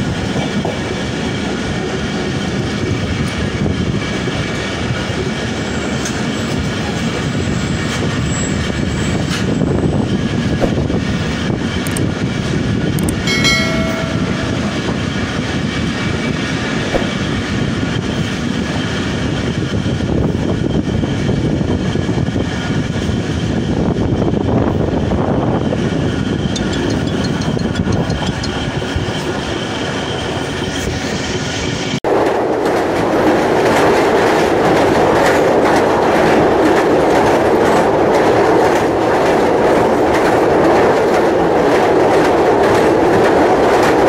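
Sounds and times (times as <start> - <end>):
train rumbling past: 0.0 - 44.0.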